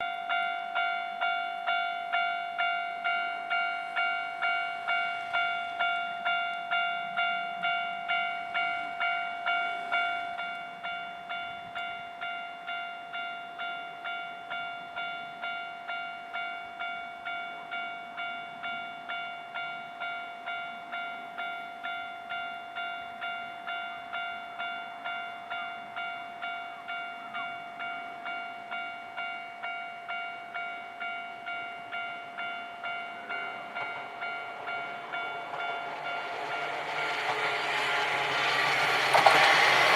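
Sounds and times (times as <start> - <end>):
level crossing warning bell ringing: 0.0 - 39.9.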